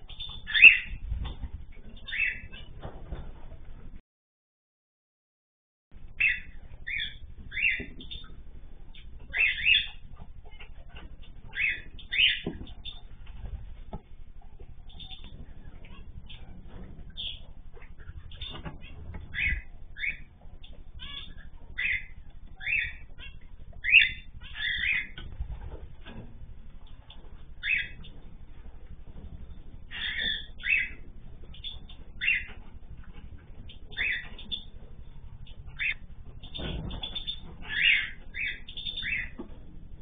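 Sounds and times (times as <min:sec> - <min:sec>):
birds chirping: 0:00.0 - 0:04.0, 0:06.0 - 0:40.0
low steady hum: 0:00.0 - 0:04.0, 0:05.9 - 0:40.0.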